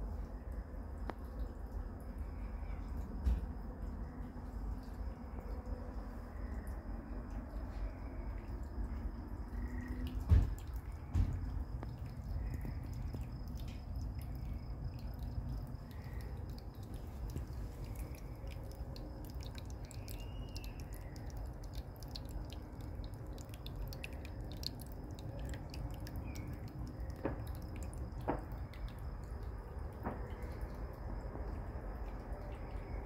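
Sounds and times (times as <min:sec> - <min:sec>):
high insect trill: 0:00.0 - 0:33.0
low steady rumble: 0:00.0 - 0:33.0.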